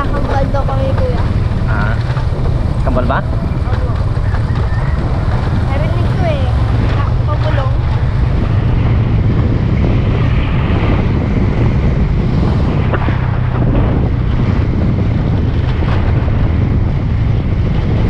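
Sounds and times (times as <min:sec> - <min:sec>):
motorcycle engine running: 0:00.0 - 0:18.0
wind buffeting microphone: 0:00.0 - 0:18.0.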